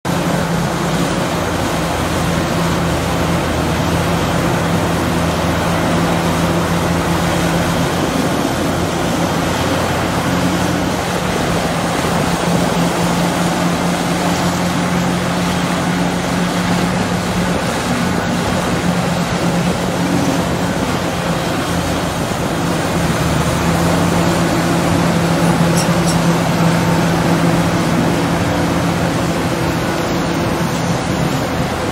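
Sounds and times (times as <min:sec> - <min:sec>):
excavator diesel engine running: 0:00.1 - 0:31.9.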